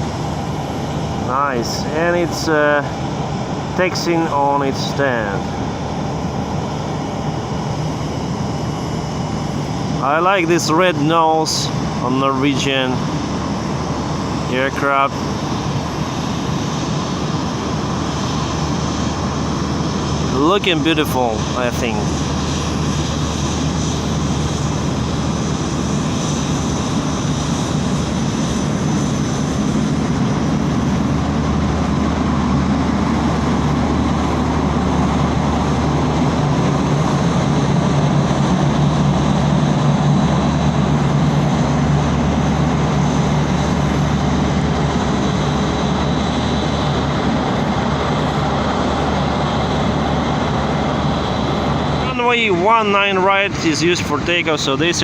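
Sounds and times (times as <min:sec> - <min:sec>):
jet engine whine: 0:00.0 - 0:55.0
low jet rumble: 0:00.0 - 0:55.0.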